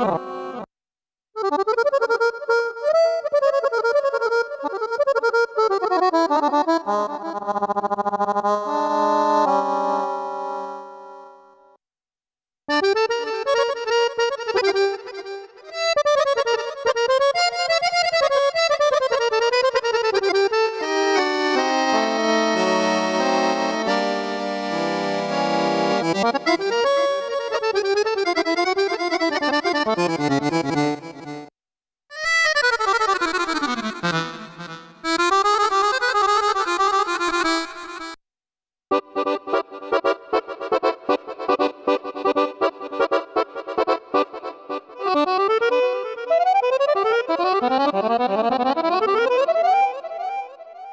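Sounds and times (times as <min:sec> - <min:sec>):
keyboard accordion melody: 0:00.0 - 0:00.7, 0:01.4 - 0:11.7, 0:12.7 - 0:38.2, 0:38.9 - 0:50.9.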